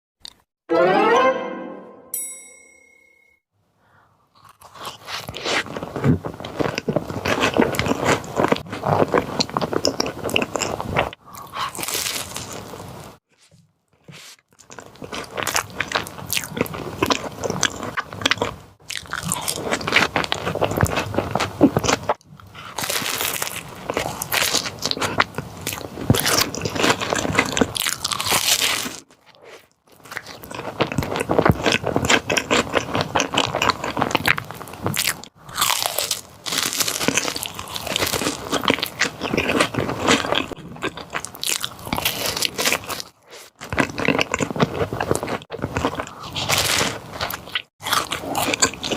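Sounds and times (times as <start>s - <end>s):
crunchy bites and chewing: 4.3s - 13.2s, 14.0s - 48.9s.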